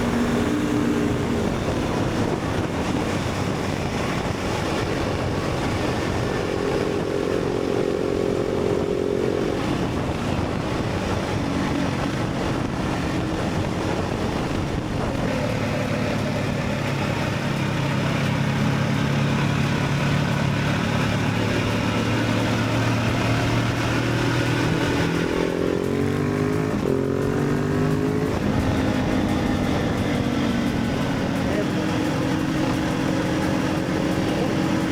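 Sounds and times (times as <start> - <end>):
motorcycle engine running: 0.0 - 34.9
wind rush: 0.0 - 34.9.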